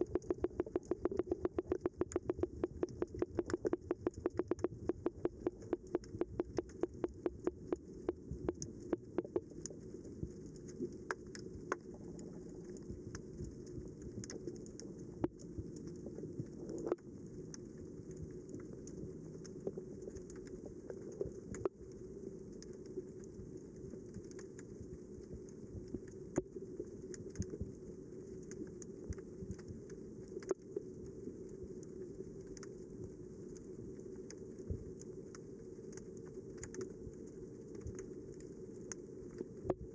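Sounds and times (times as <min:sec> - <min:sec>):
sharp underwater clicks: 0:00.0 - 0:30.7, 0:31.8 - 0:32.8, 0:33.5 - 0:39.9
muffled underwater rumble: 0:00.0 - 0:39.9.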